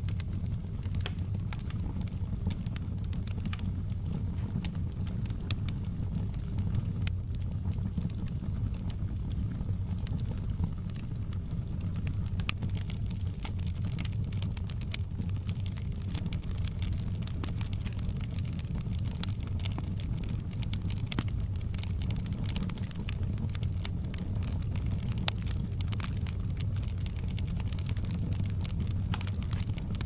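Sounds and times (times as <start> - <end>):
fire crackling and popping: 0.0 - 30.0
low rumble of burning: 0.0 - 30.0.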